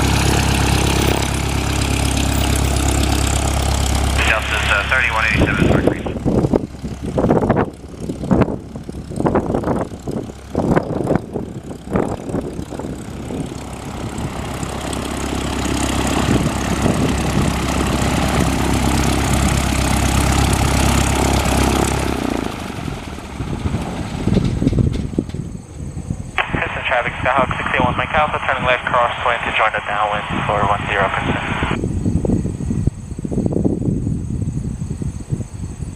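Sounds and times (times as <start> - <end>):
airplane engine and propeller: 0.0 - 35.9.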